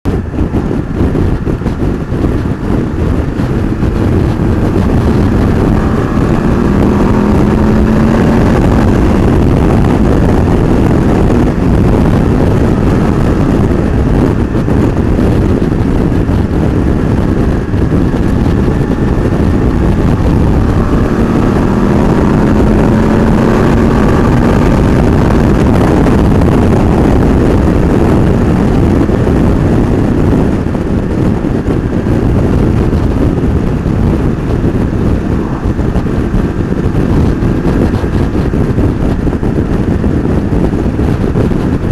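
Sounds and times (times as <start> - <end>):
motorcycle engine: 0.0 - 41.9
wind noise on microphone: 0.0 - 41.9.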